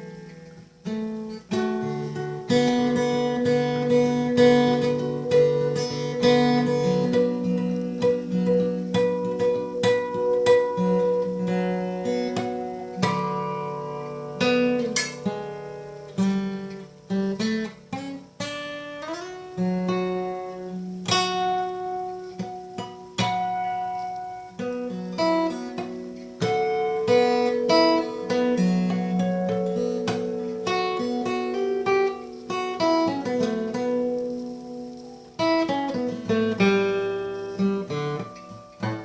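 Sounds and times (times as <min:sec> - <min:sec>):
acoustic guitar picked notes and chords: 0:00.0 - 0:39.0.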